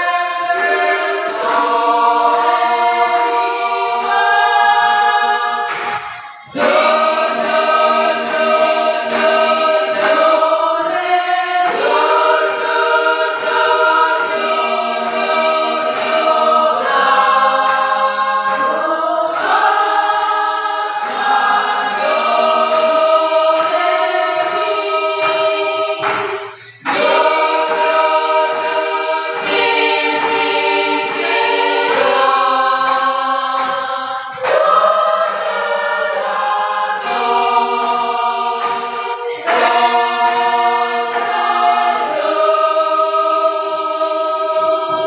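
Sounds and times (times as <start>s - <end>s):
women's choir singing a cappella: 0.0s - 45.0s.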